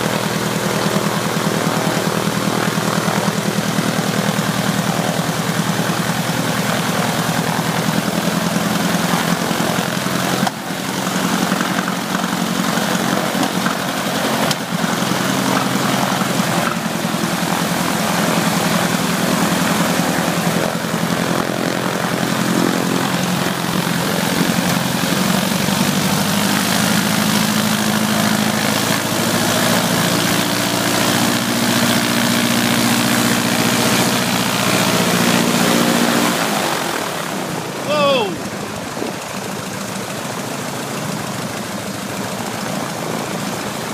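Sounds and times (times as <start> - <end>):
aircraft engine and propeller: 0.0 - 43.9.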